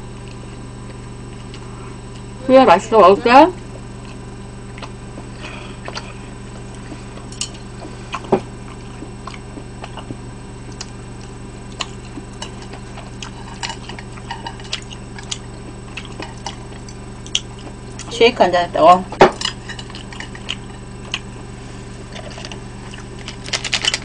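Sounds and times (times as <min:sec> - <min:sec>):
low electrical hum: 0:00.0 - 0:24.0
person chewing food: 0:00.1 - 0:02.4, 0:03.8 - 0:18.1, 0:19.4 - 0:24.0.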